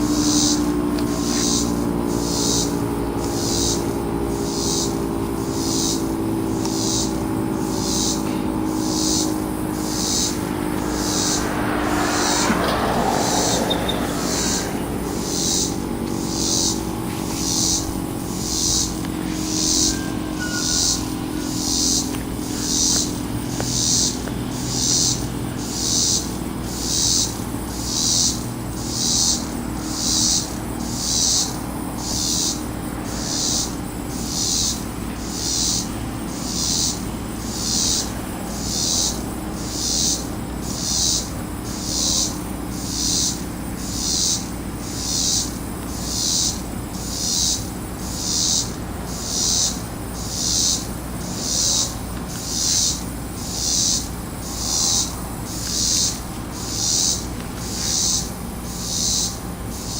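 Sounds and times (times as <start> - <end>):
insects chorus pulsing: 0.0 - 59.9.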